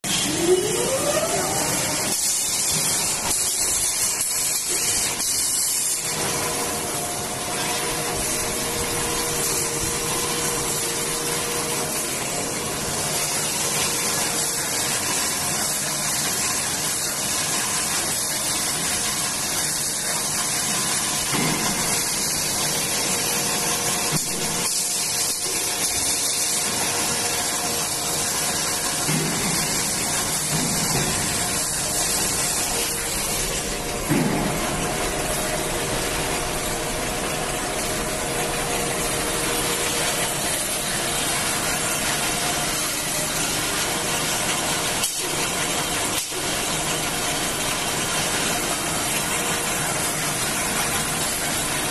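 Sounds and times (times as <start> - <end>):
bandsaw machine whirring: 0.0 - 51.9.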